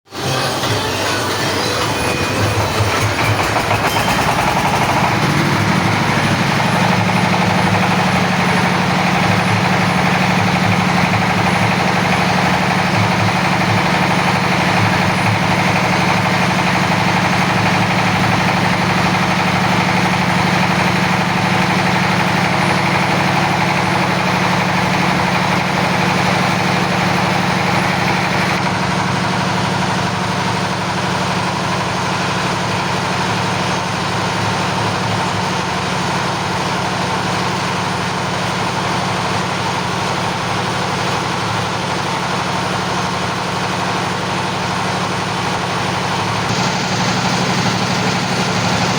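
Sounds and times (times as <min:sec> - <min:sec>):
drilling machine engine running: 0:00.1 - 0:48.9.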